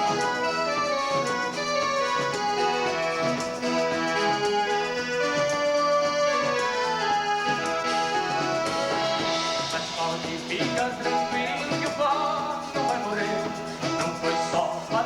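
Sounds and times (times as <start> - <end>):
dance band playing: 0.0 - 15.0
keyboard melody: 0.0 - 15.0.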